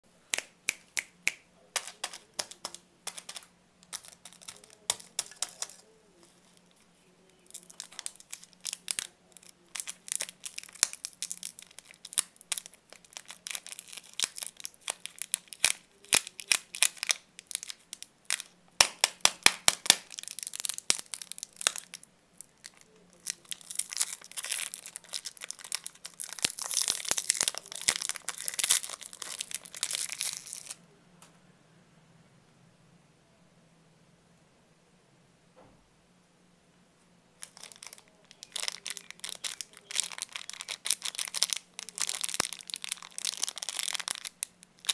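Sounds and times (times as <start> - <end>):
plastic wrapper crinkling: 1.7 - 30.8, 37.4 - 44.9
plastic wrapper tearing: 1.8 - 30.8, 37.4 - 44.9.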